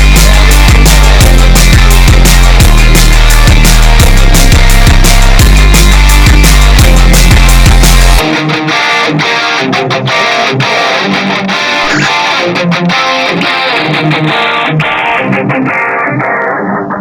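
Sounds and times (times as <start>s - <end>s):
guitar-led instrumental beat: 0.0s - 17.0s.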